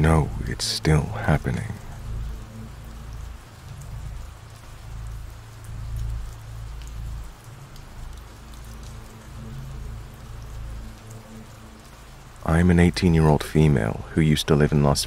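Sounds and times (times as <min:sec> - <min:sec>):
rain drop ticks: 0:00.0 - 0:15.0
steady rain falling: 0:00.0 - 0:15.0.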